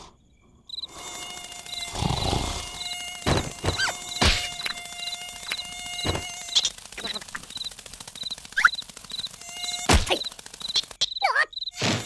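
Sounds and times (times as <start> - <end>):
cricket chirps: 0.0 - 12.0
cartoon mosquito whine: 0.7 - 12.0.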